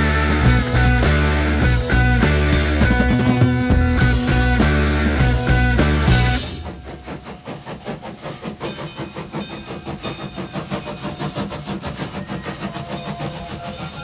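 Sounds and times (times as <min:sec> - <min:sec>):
train wheels clickety-clack: 0:00.0 - 0:14.0.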